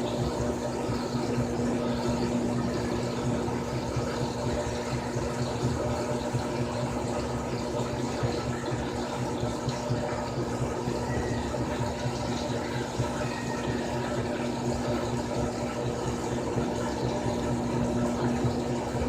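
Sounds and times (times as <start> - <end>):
washing machine motor hum: 0.0 - 19.0
water sloshing in washing machine: 0.0 - 19.0.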